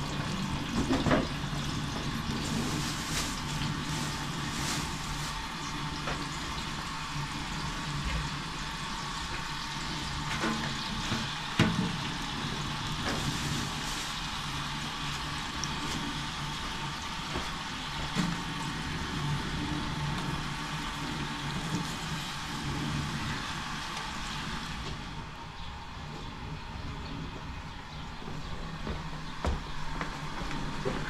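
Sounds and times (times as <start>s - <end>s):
oil sizzling in pot: 0.0s - 25.2s.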